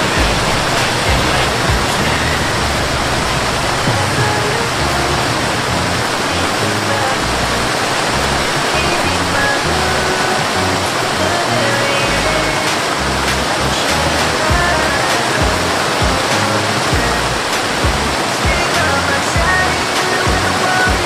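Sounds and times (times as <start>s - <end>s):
background music with bass notes: 0.0s - 21.0s
loud rushing noise: 0.0s - 21.0s.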